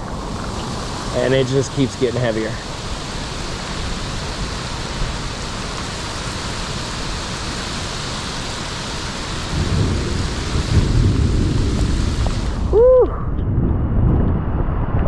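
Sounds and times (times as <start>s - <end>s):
heavy rain pouring: 0.0s - 13.5s
low thunder rumble: 0.0s - 15.0s.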